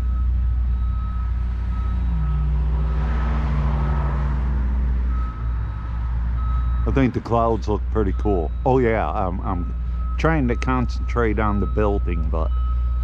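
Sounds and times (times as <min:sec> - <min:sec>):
heavy machinery engines rumbling: 0:00.0 - 0:13.0
reversing alarm beeping: 0:00.0 - 0:13.0.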